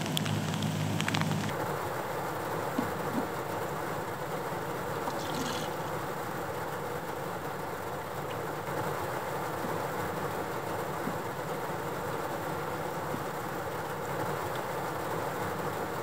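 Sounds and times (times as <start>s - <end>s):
rain on a car body: 0.0s - 16.0s.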